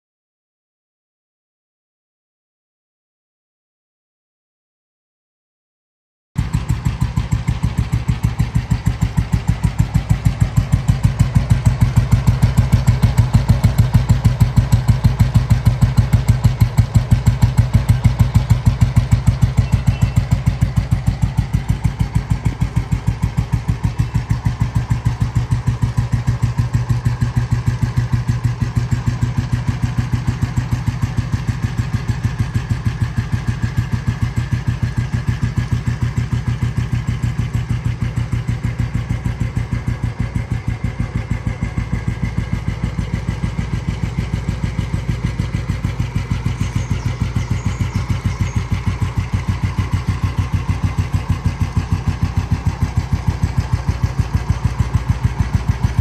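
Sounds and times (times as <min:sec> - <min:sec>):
motorcycle engine running: 0:06.4 - 0:56.0.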